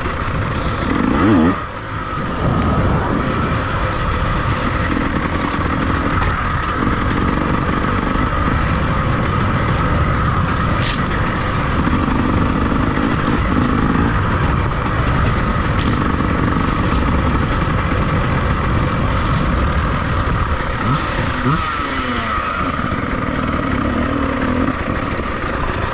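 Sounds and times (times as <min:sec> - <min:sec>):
rough noise: 0:00.0 - 0:25.9
vehicle engine running: 0:00.0 - 0:25.9.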